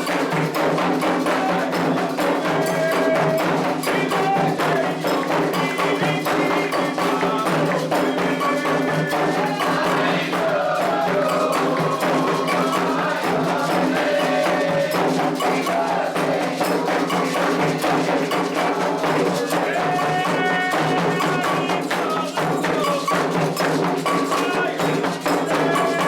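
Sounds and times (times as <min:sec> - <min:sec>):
fast hand percussion: 0:00.0 - 0:26.0
voices singing: 0:00.0 - 0:26.0.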